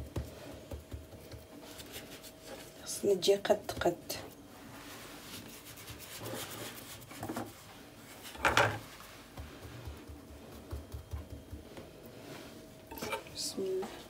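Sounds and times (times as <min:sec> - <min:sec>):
hands rubbing dough on countertop: 0:00.0 - 0:12.8.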